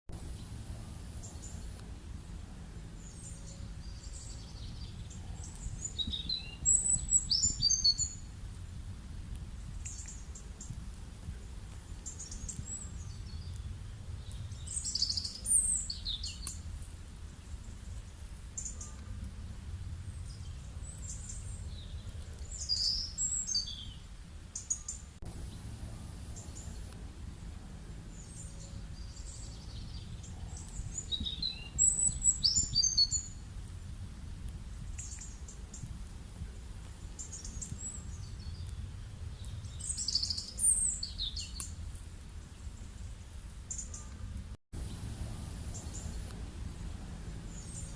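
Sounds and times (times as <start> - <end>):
low rumble: 0.1 - 24.5, 25.2 - 43.2, 44.2 - 47.9
songbird chirping: 0.1 - 33.8, 34.4 - 47.9.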